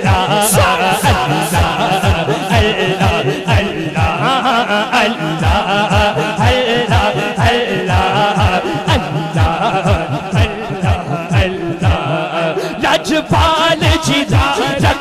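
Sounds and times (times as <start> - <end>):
voices chanting over loudspeaker: 0.0 - 15.0.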